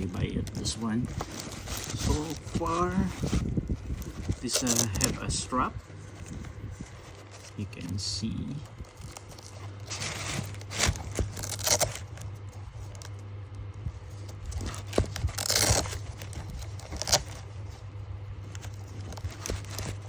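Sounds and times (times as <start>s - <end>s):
paper packaging rustling: 0.0s - 20.0s
steady low hum: 0.0s - 20.0s.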